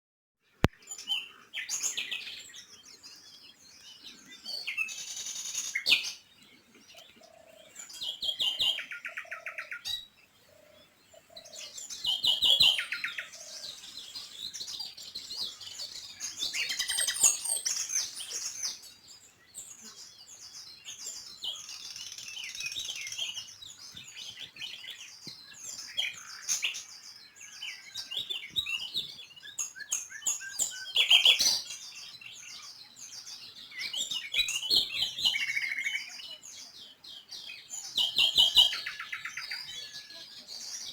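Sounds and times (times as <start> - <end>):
songbirds chirping and singing: 0.4 - 40.9
bird trill: 6.9 - 40.9.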